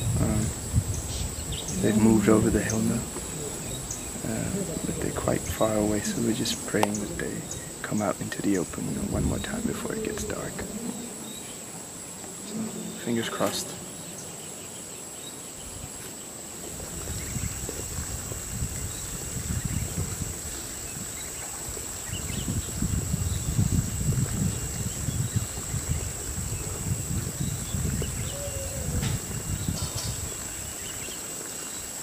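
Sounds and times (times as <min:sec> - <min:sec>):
insects chorus drone: 0:00.0 - 0:32.0.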